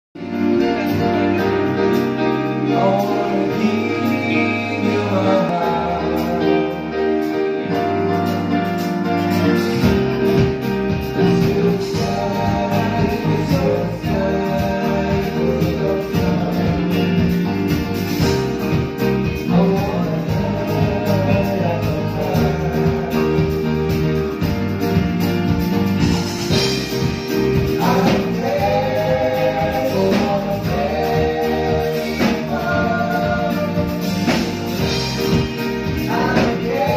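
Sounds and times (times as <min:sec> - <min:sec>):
live band playing: 0:00.2 - 0:36.9
man singing lead vocal: 0:00.4 - 0:24.4, 0:26.5 - 0:36.9.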